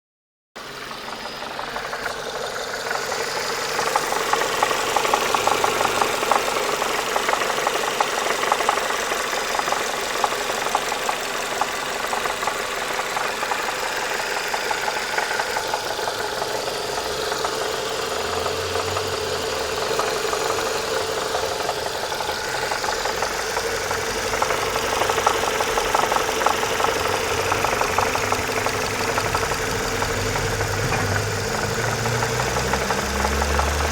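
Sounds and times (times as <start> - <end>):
car engine running: 0.6 - 33.9
fast knocking tick: 1.2 - 33.9.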